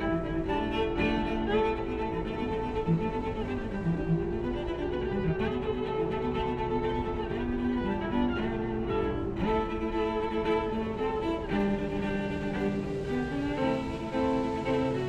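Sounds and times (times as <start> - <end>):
bowed strings slow melody: 0.0 - 15.0.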